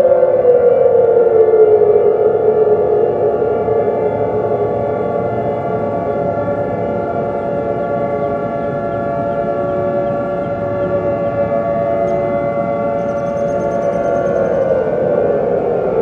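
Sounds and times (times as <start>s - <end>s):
tornado warning siren wailing: 0.0s - 16.0s.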